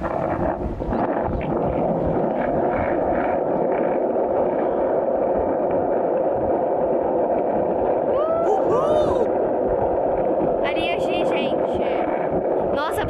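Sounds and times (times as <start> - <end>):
skateboard wheels rolling on asphalt: 0.0 - 13.0.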